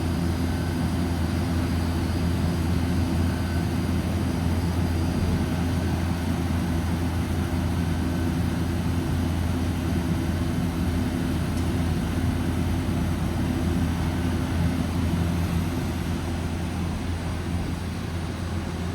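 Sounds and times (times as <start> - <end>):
chiller machine hum: 0.0 - 18.9.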